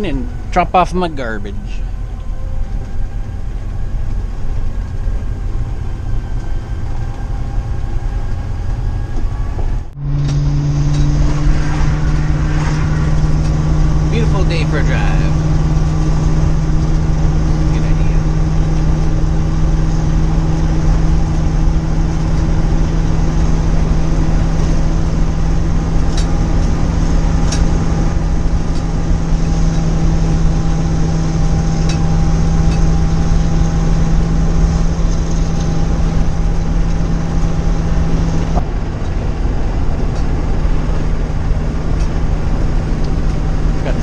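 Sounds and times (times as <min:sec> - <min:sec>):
constant hum: 0:00.0 - 0:44.0
road rumble: 0:00.0 - 0:44.0
vehicle engine drone: 0:00.0 - 0:44.0.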